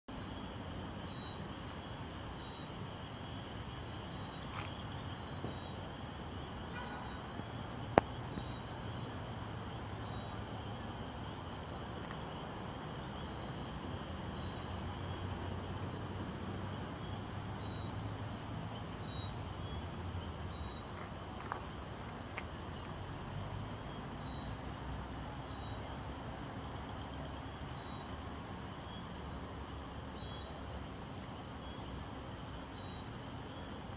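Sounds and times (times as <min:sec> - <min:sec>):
crickets trilling: 0:00.1 - 0:33.9
short insect chirps: 0:00.2 - 0:15.5, 0:16.5 - 0:33.9.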